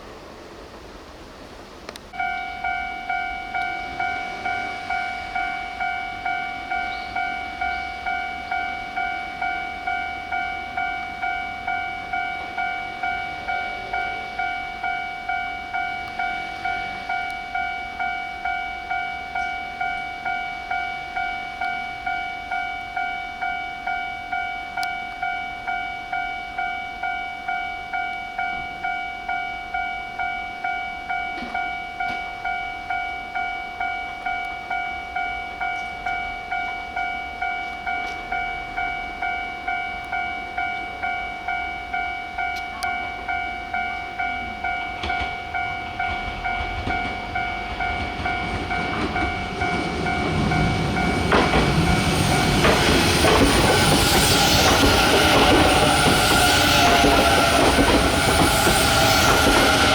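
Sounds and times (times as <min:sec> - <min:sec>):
level crossing alarm dinging: 0:02.1 - 0:59.9.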